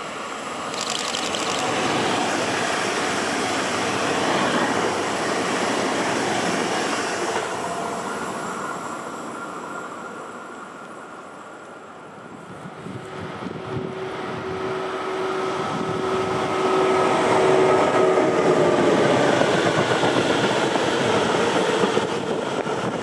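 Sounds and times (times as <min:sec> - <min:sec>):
train rolling on rails: 0:00.0 - 0:23.0.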